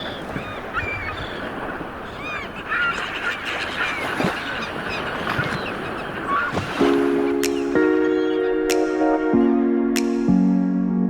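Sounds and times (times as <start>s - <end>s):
birds chirping and honking: 0.0s - 9.6s.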